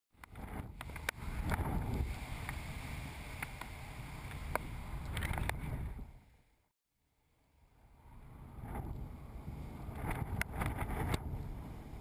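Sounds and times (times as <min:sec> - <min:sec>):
wind rushing over camera: 0:00.2 - 0:06.5, 0:07.8 - 0:12.0.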